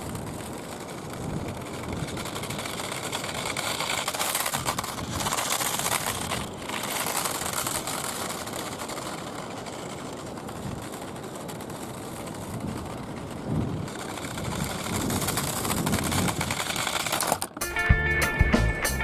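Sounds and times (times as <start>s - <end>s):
small tyre noise: 0.0s - 17.6s
toy car motor and gears whirring: 0.0s - 17.6s.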